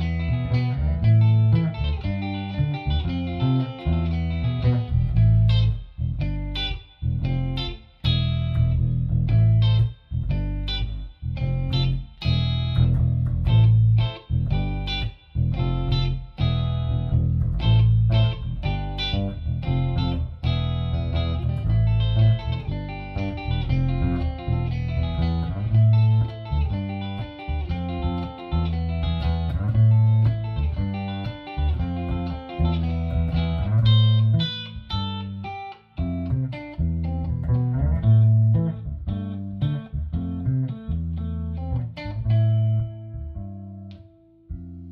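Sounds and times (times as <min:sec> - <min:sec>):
electric guitar shuffle: 0:00.0 - 0:44.9.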